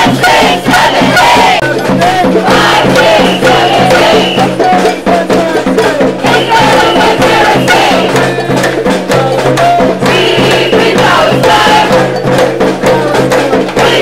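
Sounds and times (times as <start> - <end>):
drumming with rattles: 0.0 - 14.0
voices chanting: 0.0 - 14.0.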